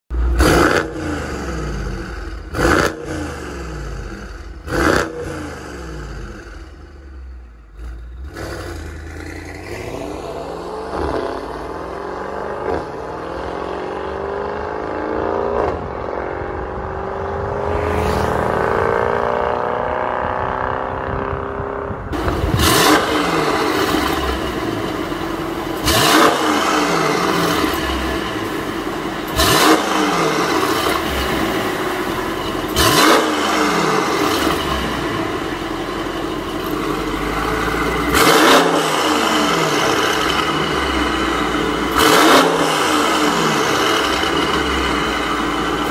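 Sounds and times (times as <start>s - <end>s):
car engine revving: 0.1s - 45.9s
car accelerating hard: 0.4s - 4.0s, 7.8s - 45.9s.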